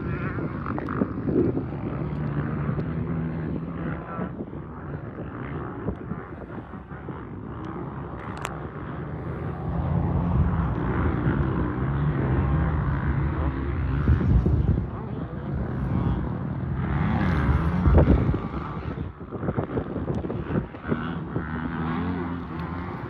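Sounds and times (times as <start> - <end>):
small motorbike engine running: 0.0 - 23.0
wind on microphone: 0.0 - 23.0.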